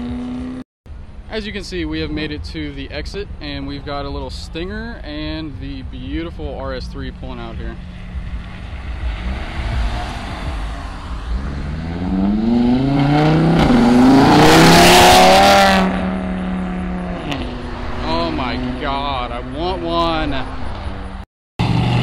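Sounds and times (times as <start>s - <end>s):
car engine revving: 0.0s - 2.4s, 4.9s - 22.0s.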